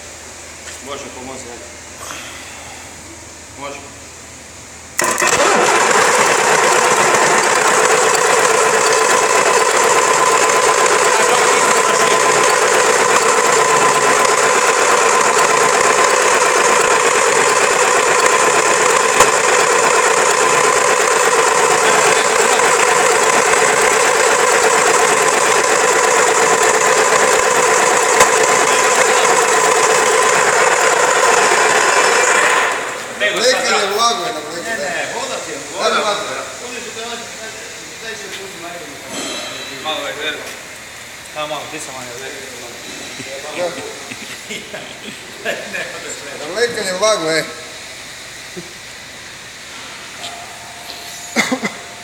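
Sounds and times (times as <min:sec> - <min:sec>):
large diesel engine running: 0:05.0 - 0:52.0.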